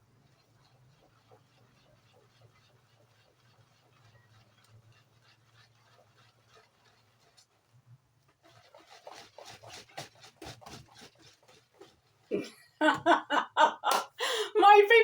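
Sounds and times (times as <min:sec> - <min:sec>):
thick batter stirred in a bowl: 0:00.0 - 0:13.2.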